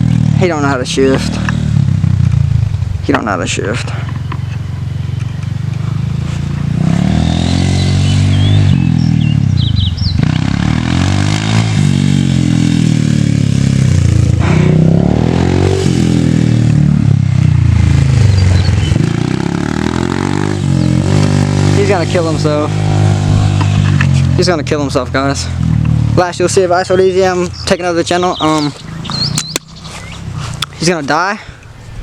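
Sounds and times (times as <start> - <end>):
dirt bike engine revving: 0.0 - 31.5.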